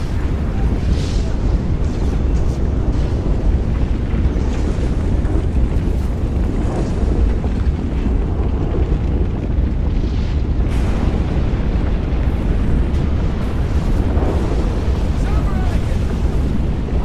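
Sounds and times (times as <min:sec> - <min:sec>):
deep volcanic rumble: 0:00.0 - 0:17.0
faint crackles: 0:00.0 - 0:17.0.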